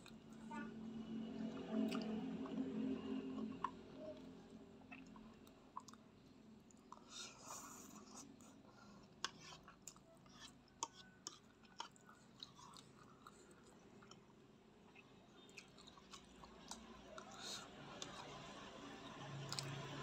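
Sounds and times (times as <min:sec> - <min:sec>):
chewing soft noodles: 0:00.0 - 0:20.0.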